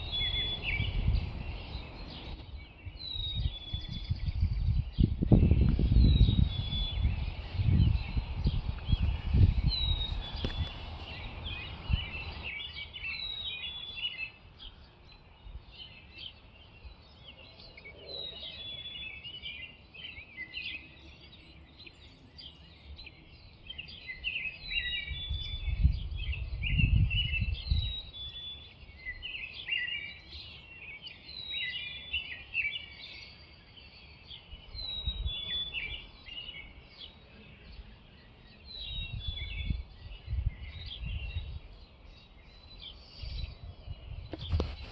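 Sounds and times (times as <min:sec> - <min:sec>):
robins singing: 0:00.0 - 0:44.9.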